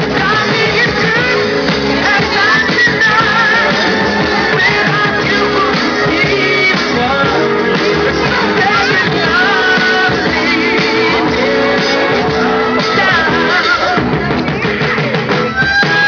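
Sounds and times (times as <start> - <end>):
person singing over instruments: 0.0 - 16.0.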